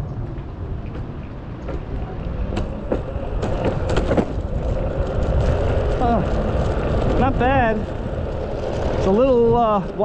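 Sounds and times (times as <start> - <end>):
hard wheels rumbling over concrete: 0.0 - 10.0
wheels clacking over joints: 0.2 - 10.0.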